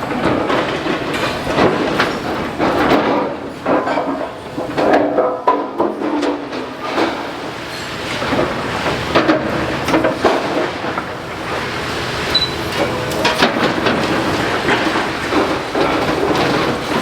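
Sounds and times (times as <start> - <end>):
rubble crunching and clattering: 0.0 - 12.0, 12.8 - 17.0
excavator rumble: 0.0 - 17.0.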